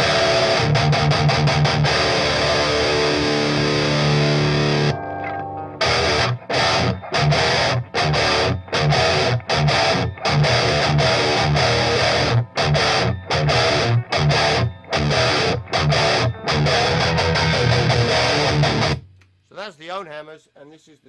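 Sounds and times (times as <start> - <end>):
distorted electric guitar riffing: 0.0 - 19.0.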